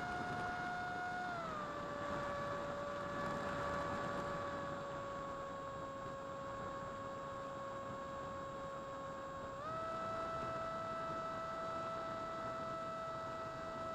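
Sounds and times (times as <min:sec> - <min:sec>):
electric motor and propeller whine: 0:00.0 - 0:13.9.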